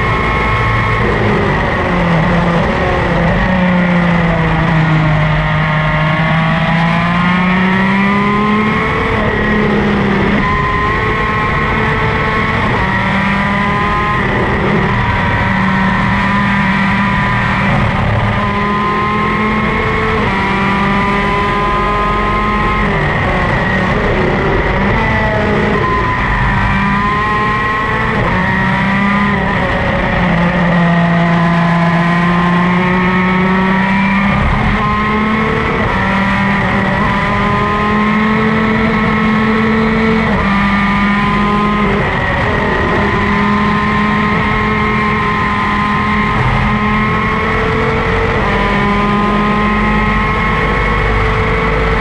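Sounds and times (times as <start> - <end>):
kart engine revving: 0.0 - 52.0
rush of noise: 0.0 - 52.0.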